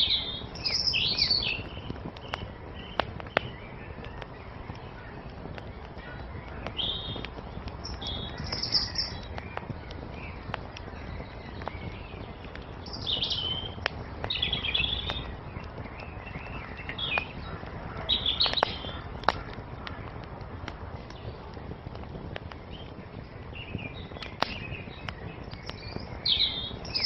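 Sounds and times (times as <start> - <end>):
songbirds chirping: 0.0 - 27.0
wood fire crackling and popping: 0.0 - 27.0.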